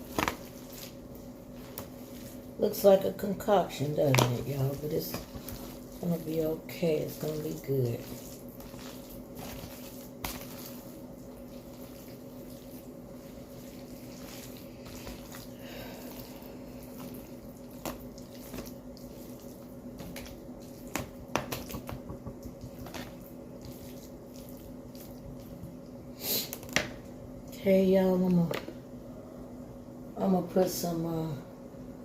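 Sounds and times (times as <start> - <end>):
spoon stirring thick mixture: 0.0 - 26.0
steady hum: 0.0 - 32.0.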